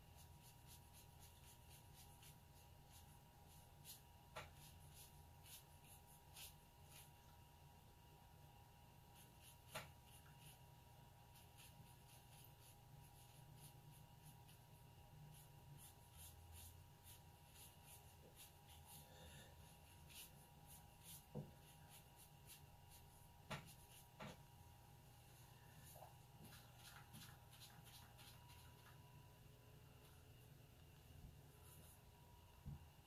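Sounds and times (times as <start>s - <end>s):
brush scratching on paper: 0.0s - 7.5s, 9.0s - 24.6s, 25.2s - 29.0s, 31.5s - 32.1s.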